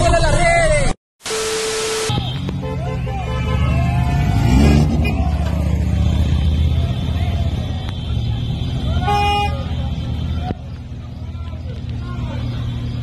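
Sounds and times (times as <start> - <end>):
car engine revving: 2.5 - 13.0.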